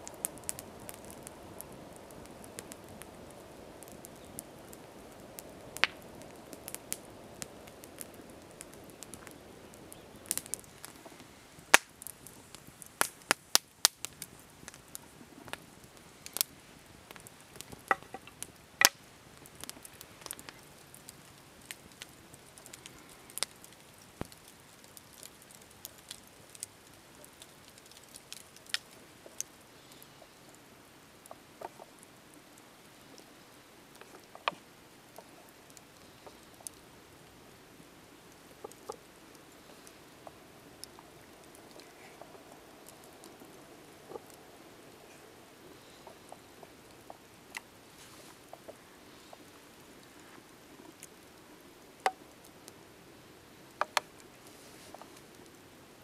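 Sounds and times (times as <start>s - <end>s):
campfire crackling and popping: 0.0s - 56.0s
low rush of flame: 0.0s - 56.0s.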